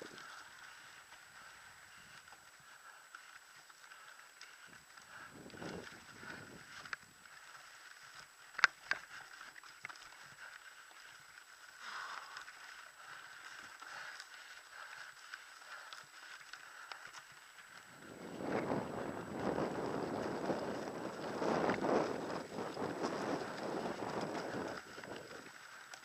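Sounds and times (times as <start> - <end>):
bike tyres rumbling on dirt: 0.0 - 26.0
small ticks: 0.0 - 26.0.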